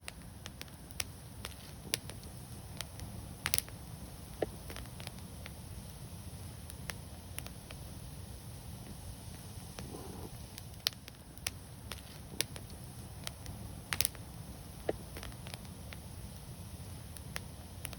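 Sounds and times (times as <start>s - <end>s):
low steady rumble: 0.0s - 17.9s
wood fire crackling: 0.0s - 17.9s.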